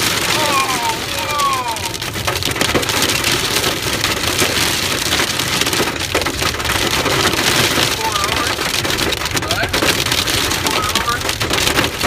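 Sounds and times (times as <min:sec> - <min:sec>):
hail pelting a car roof: 0:00.0 - 0:12.0.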